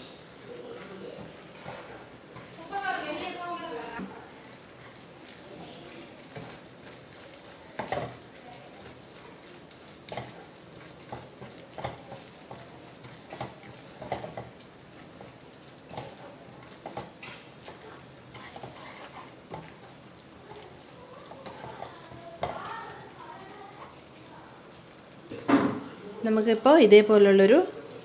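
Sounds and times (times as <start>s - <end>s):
spatula scraping a pan: 0.0s - 26.2s
mixture sizzling: 0.0s - 28.0s.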